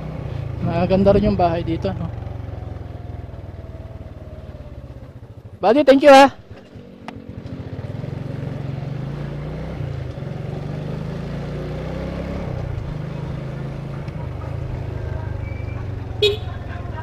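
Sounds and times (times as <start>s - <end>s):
motor scooter engine: 0.0s - 17.0s.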